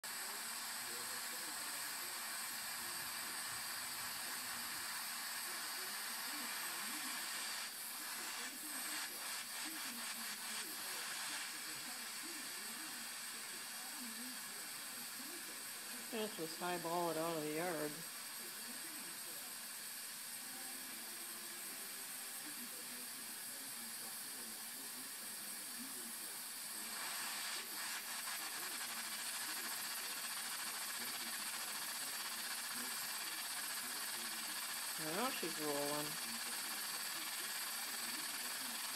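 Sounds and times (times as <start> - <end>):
gas stove burner hissing: 0.0 - 38.9.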